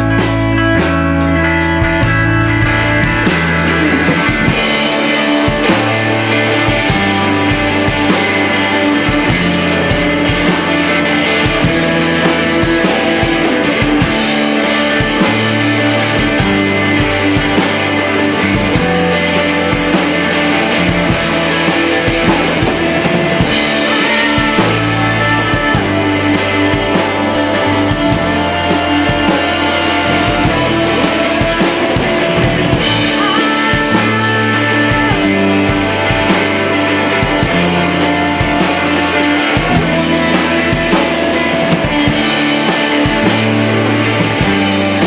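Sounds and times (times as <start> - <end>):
drum kit: 0.0 - 45.0
electric guitars: 0.0 - 45.0.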